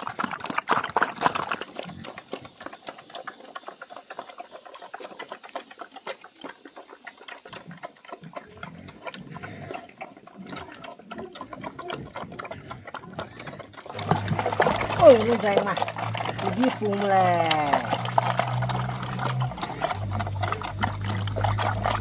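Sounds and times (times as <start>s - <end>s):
pig grunting: 0.0s - 22.0s
pigs chewing wetly: 0.0s - 22.0s.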